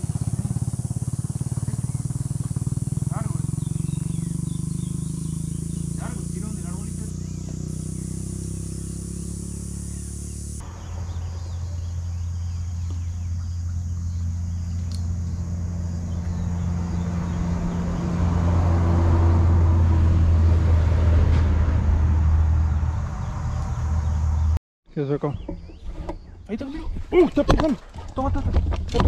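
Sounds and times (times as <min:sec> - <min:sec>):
engine humming: 0:00.0 - 0:24.6.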